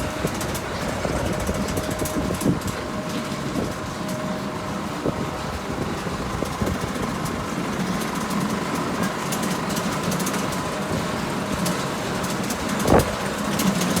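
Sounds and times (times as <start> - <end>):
machinery engine hum: 0.0 - 14.0.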